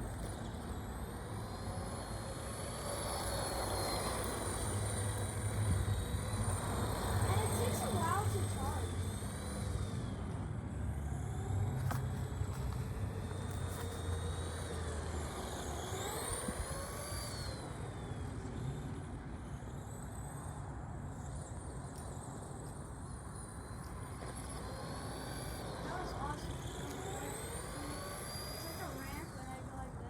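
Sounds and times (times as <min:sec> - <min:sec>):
rc car motor whining: 0:00.0 - 0:30.0.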